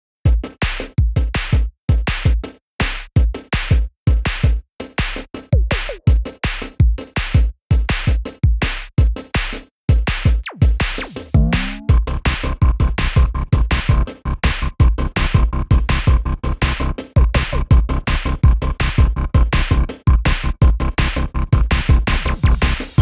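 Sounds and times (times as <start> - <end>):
electronic drum-machine beat: 0.3 - 23.0.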